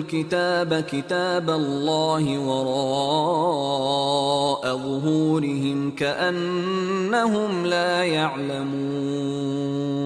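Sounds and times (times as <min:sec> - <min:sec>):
man chanting melodic recitation: 0:00.0 - 0:10.0.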